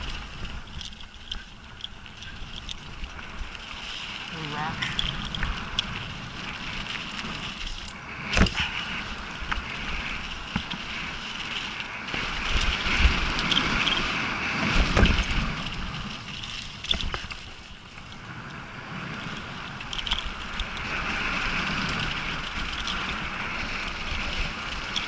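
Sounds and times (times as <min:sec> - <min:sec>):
bike frame and chain rattling: 0:00.0 - 0:25.0
wind noise on microphone: 0:00.0 - 0:25.0.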